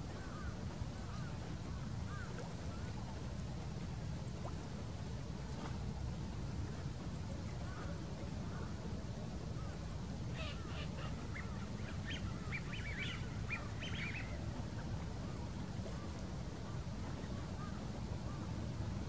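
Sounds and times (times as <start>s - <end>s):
waterbirds calling: 0.0s - 19.0s.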